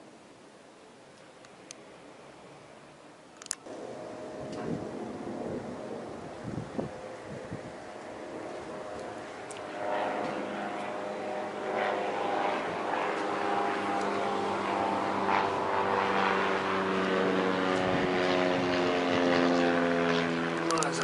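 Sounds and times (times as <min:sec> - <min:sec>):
propeller plane flying overhead: 0:01.5 - 0:21.0.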